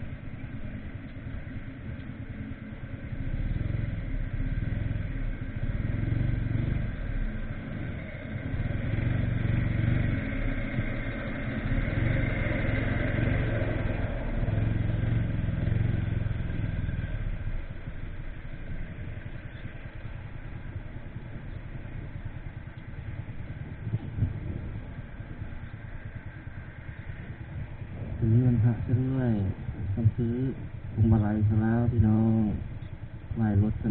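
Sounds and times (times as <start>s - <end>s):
motorcycle engine running: 0.0s - 33.9s
road and wind noise: 0.0s - 33.9s.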